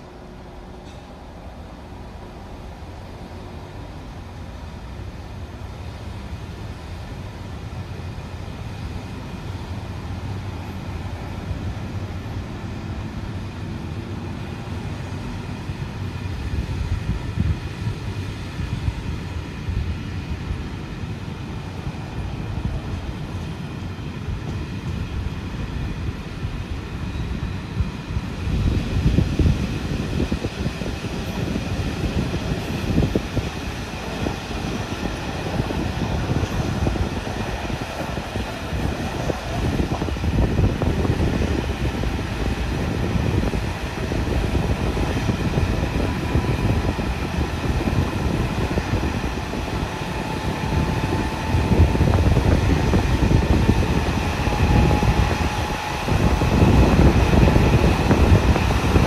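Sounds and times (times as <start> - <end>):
train rumbling over rails: 0.0 - 59.0.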